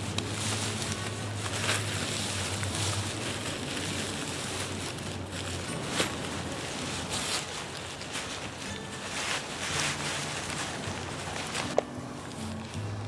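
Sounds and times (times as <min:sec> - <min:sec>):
tent fabric rustling: 0:00.0 - 0:13.0.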